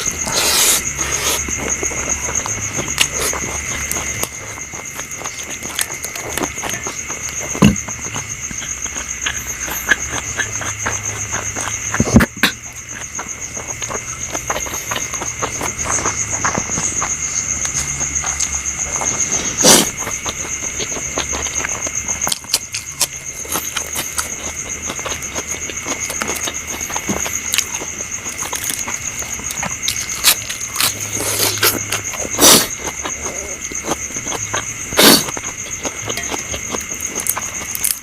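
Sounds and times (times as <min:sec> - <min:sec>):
loud crunches: 0:00.0 - 0:38.0
person chewing food: 0:00.0 - 0:38.0.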